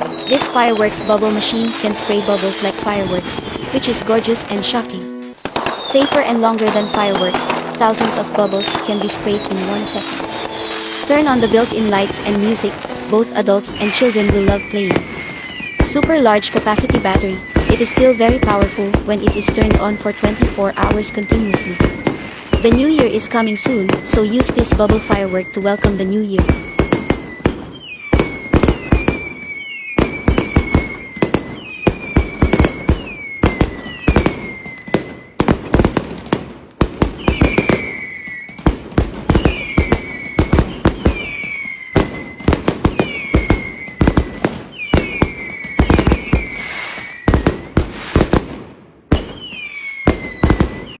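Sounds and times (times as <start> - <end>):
falling firework whistle: 0.0 - 36.3, 37.1 - 48.5, 49.1 - 51.0
fireworks popping and crackling: 0.0 - 51.0.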